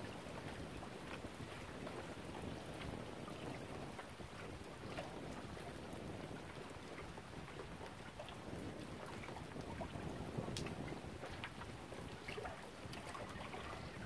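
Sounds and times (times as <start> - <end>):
lake water lapping at shore: 0.0 - 14.0
wind: 0.0 - 14.0.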